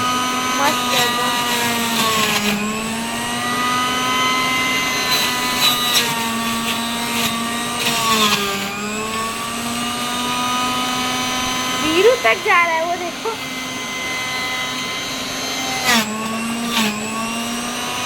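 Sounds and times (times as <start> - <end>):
mixer grinder motor whining: 0.0 - 18.0.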